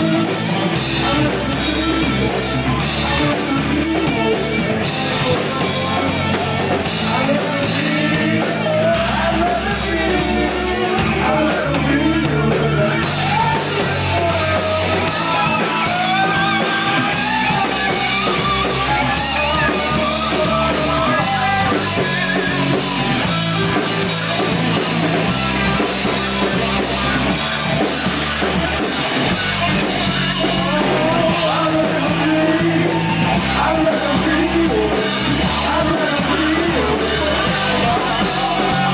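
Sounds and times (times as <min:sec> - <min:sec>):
bass guitar: 0:00.0 - 0:38.9
drum kit: 0:00.0 - 0:38.9
electric guitars: 0:00.0 - 0:38.9
person singing: 0:00.0 - 0:38.9.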